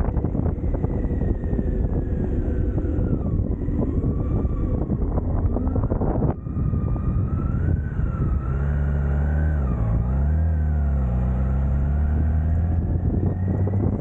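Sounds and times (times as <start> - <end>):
engine whine: 0.0 - 14.0.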